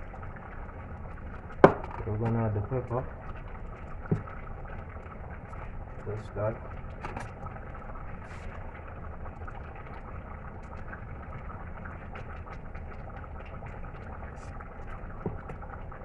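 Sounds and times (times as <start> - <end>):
stew bubbling in a pot: 0.0 - 16.0.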